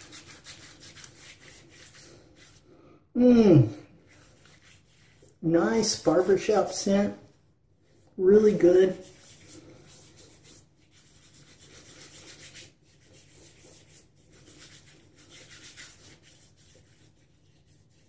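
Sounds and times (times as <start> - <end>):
wet hands rubbing stubble: 0.0 - 18.0.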